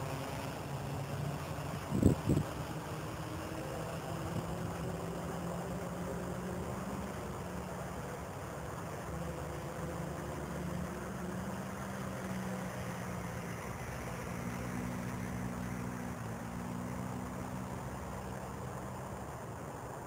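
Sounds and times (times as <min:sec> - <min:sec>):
quadcopter motors buzzing: 0:00.0 - 0:20.0.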